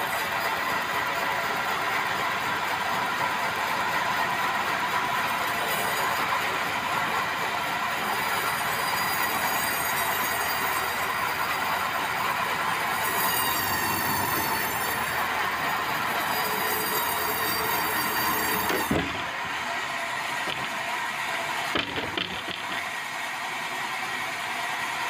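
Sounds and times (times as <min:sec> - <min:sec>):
sawmill blade cutting log: 0:00.0 - 0:23.8.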